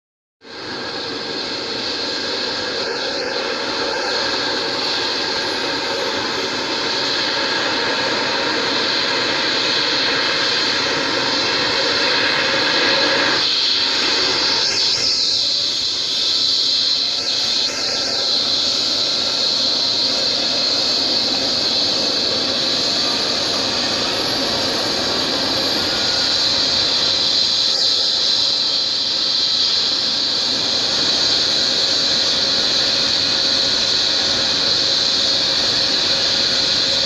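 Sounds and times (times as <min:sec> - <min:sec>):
helicopter turbine whine: 0:00.4 - 0:37.0
helicopter rotor turning: 0:00.5 - 0:37.0.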